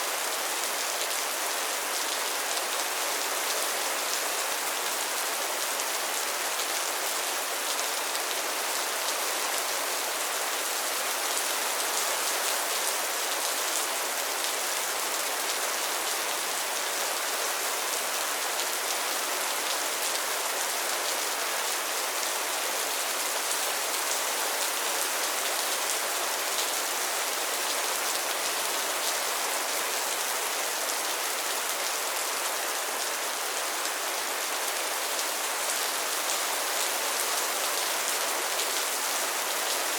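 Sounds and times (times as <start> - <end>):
rain falling on pond water: 0.0 - 39.9.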